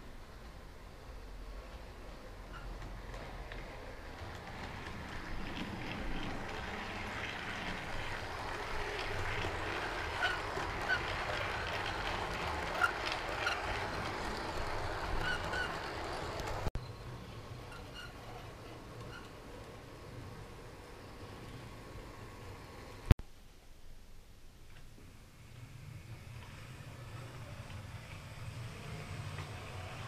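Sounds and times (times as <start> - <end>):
model train running on track: 0.0 - 23.1, 25.3 - 30.0.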